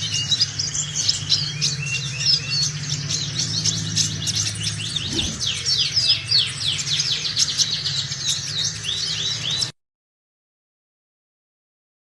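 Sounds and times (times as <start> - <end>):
bird singing high chirps: 0.0 - 9.8.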